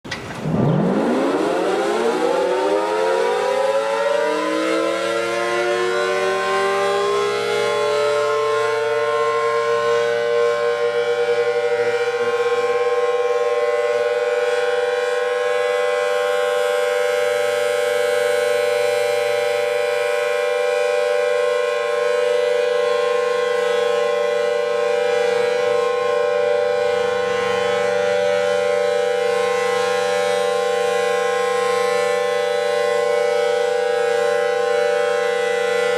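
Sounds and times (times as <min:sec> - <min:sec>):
emergency siren wailing: 0:00.1 - 0:35.9.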